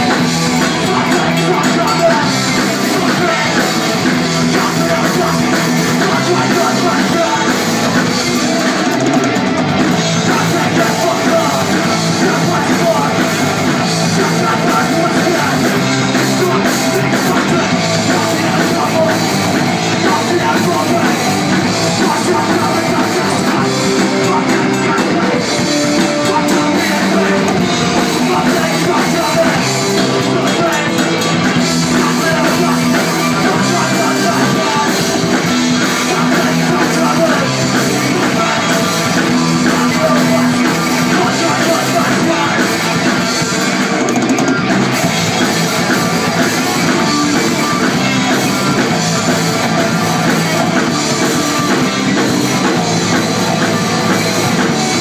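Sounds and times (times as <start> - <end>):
person singing: 0.0 - 55.0
punk band playing live: 0.0 - 55.0.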